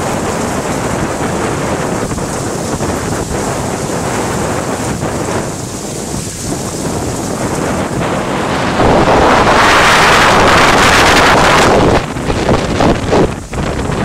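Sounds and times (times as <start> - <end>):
heavy rain: 0.0 - 14.0
wind gust buffeting microphone: 0.0 - 14.0.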